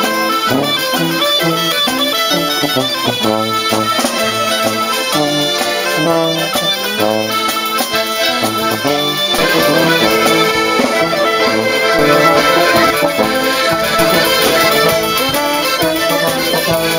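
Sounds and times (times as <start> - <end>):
street band with accordions and brass: 0.0 - 16.9.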